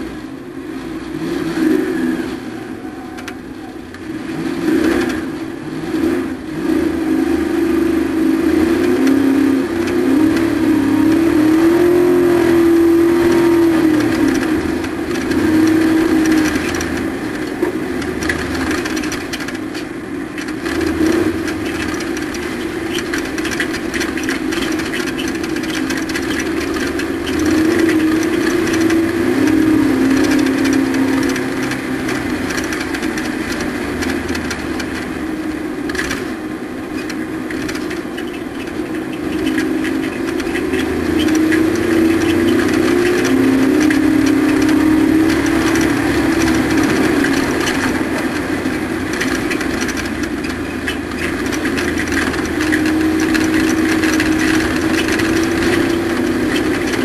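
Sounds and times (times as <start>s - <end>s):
racing truck engine revving: 0.0s - 57.0s.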